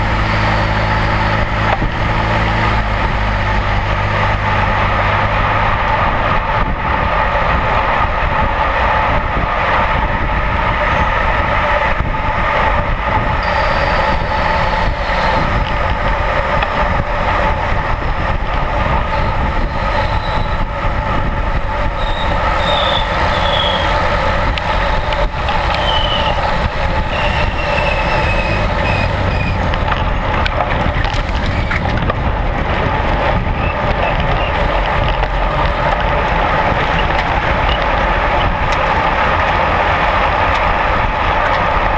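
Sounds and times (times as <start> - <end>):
road noise: 0.0 - 41.9
wind noise: 0.0 - 41.9.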